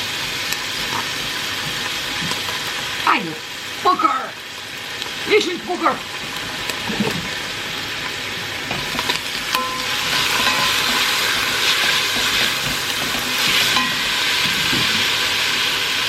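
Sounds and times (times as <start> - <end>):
onions sizzling in a pan: 0.0 - 16.0.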